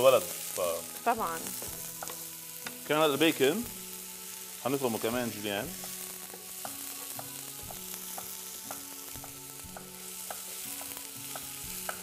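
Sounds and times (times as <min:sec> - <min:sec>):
leeks sizzling in a pan: 0:00.0 - 0:12.0
soft background music: 0:00.0 - 0:12.0.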